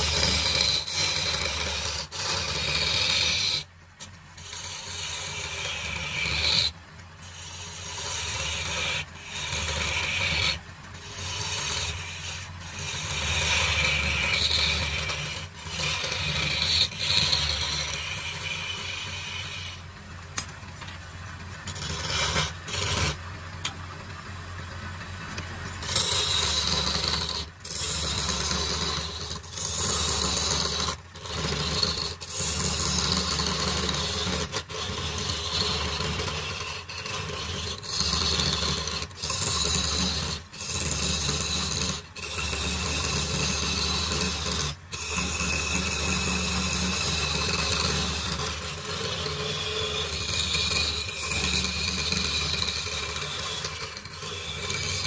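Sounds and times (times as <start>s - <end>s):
chisel scraping wood: 0.0s - 21.0s, 21.6s - 23.8s, 25.4s - 55.0s
lathe humming: 0.0s - 55.0s.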